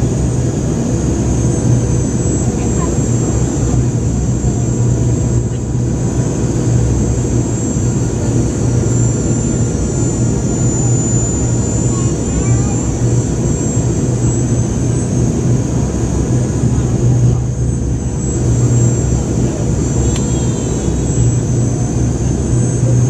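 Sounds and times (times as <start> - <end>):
jet engine cabin drone: 0.0 - 23.0.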